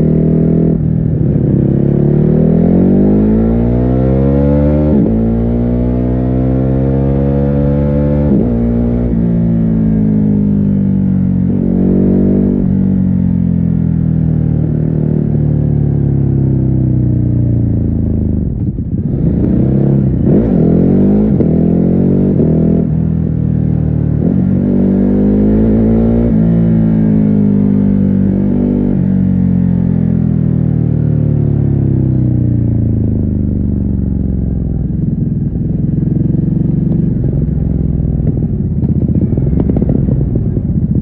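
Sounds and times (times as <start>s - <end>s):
muffled motorcycle engine: 0.0s - 41.0s.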